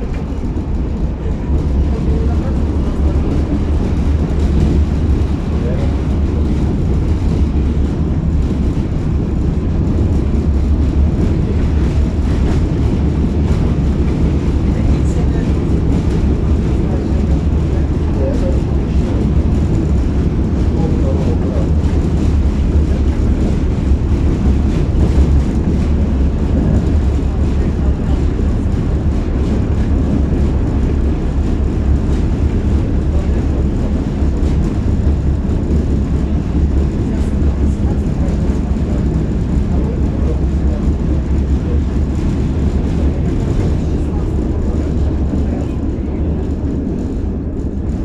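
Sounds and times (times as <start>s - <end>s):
tram rumbling on rails: 0.0s - 48.0s.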